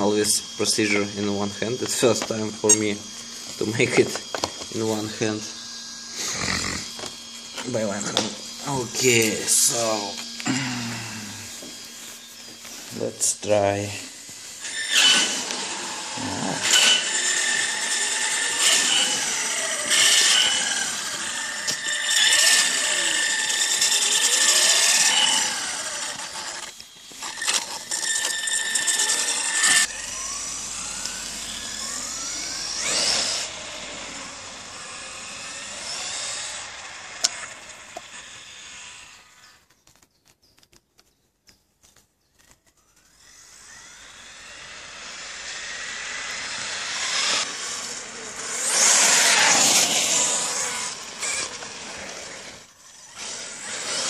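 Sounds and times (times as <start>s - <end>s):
electric toy truck motor whining: 0.0s - 39.8s, 42.4s - 54.0s.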